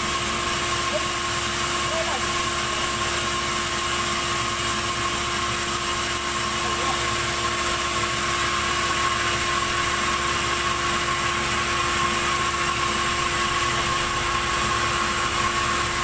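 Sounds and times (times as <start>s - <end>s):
log saw whine: 0.0s - 16.0s
motor hum: 0.0s - 16.0s.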